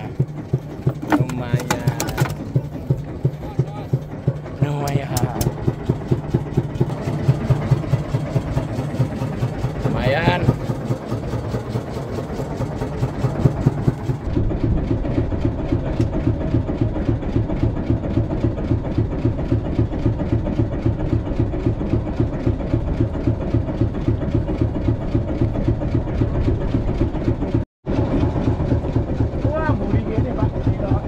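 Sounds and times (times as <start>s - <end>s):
boat engine chugging: 0.0s - 31.0s.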